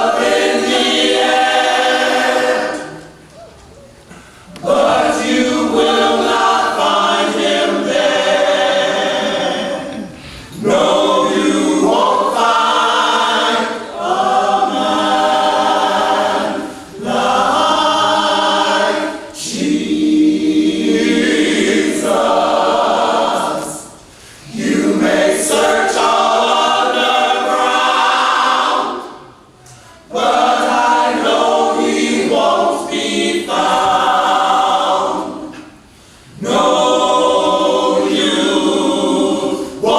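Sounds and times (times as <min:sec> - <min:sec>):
choir singing a cappella: 0:00.0 - 0:03.3, 0:04.2 - 0:39.9.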